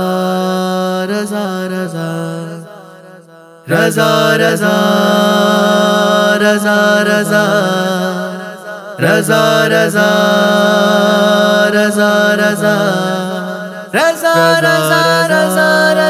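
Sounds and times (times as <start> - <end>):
wordless vocal drone: 0.0 - 16.0.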